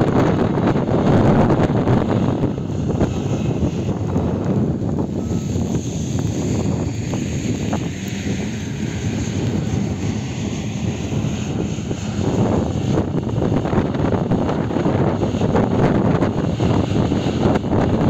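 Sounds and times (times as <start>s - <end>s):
bulldozer diesel engine droning: 0.0s - 18.0s
wind rumbling on microphone: 0.0s - 18.0s.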